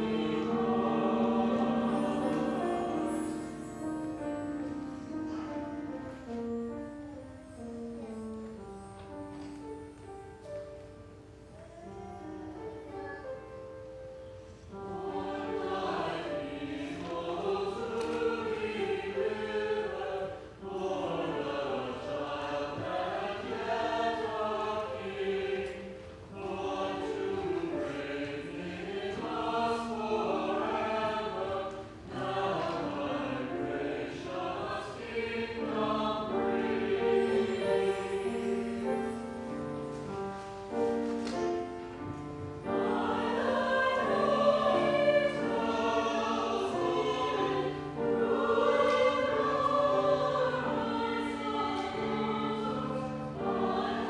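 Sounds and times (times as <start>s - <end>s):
church choir singing in harmony: 0.0s - 54.0s.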